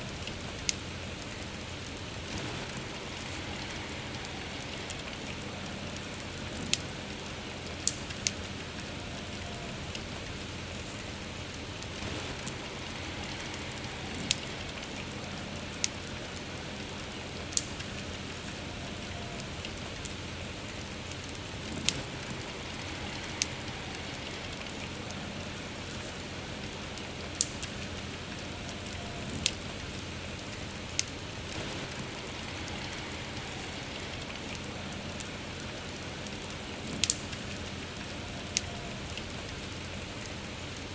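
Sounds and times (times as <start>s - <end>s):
campfire crackles and pops: 0.0s - 40.9s
soft rain falling: 0.0s - 40.9s.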